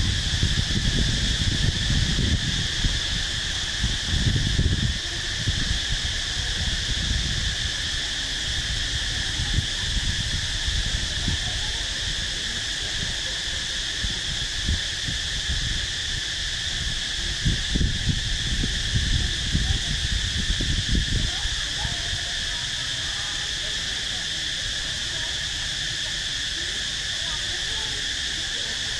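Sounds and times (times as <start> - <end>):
wind rumble on microphone: 0.0 - 26.6
insect chorus buzzing: 0.0 - 28.9.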